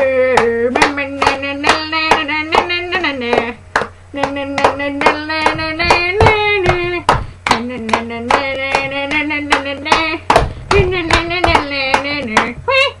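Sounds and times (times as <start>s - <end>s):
person singing long notes: 0.0s - 13.0s
hand claps: 0.3s - 12.6s.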